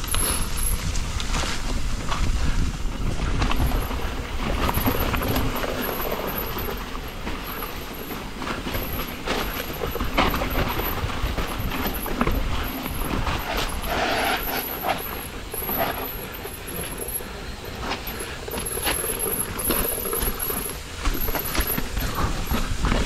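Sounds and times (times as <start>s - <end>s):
bike frame and chain rattling: 0.0s - 23.0s
bike tyres on dirt: 0.0s - 23.0s
steady low rumble: 0.0s - 23.0s.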